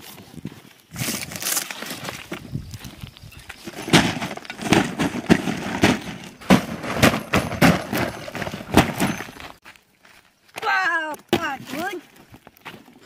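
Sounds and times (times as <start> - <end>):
footsteps crunching on dry soil: 0.0 - 13.0.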